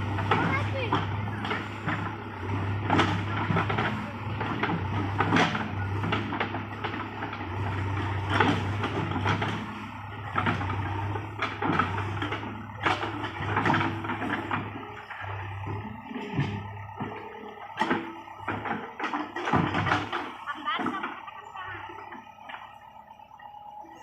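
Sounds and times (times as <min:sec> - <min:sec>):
diesel engine hum: 0:00.0 - 0:24.0
knocks and clatter: 0:00.2 - 0:21.3.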